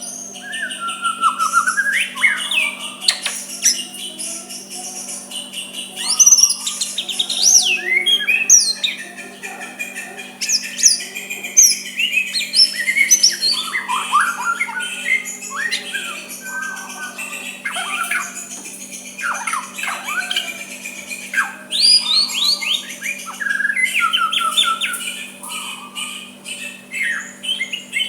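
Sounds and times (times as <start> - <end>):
bird singing whistles and chirps: 0.0 - 28.0
steady low hum: 0.0 - 28.0.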